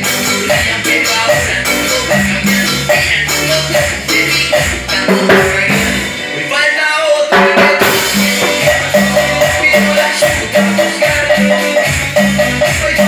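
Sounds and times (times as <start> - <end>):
recorded cumbia music with bass: 0.0 - 13.0.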